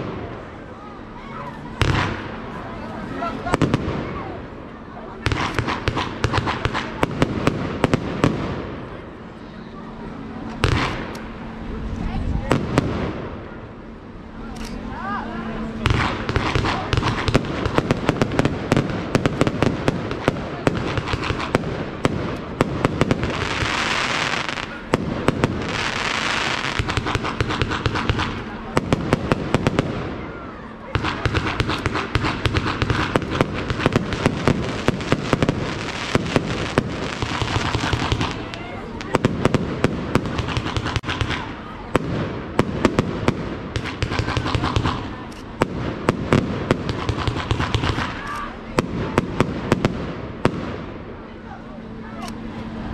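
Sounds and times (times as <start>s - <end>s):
fireworks bangs: 0.0s - 0.7s, 1.3s - 9.3s, 10.0s - 14.8s, 15.6s - 51.2s.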